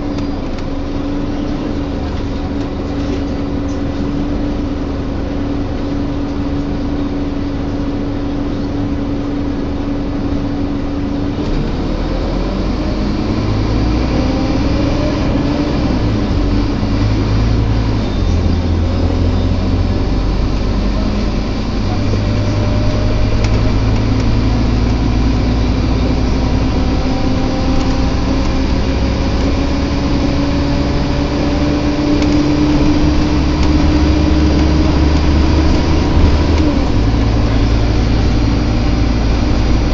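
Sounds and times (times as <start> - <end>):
bus engine groaning and whining: 0.0 - 39.9.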